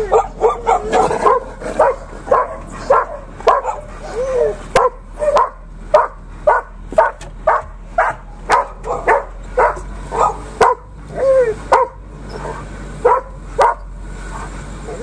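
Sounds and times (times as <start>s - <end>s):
dog whining yelps: 0.0s - 15.0s
dogs barking excitedly: 0.0s - 15.0s.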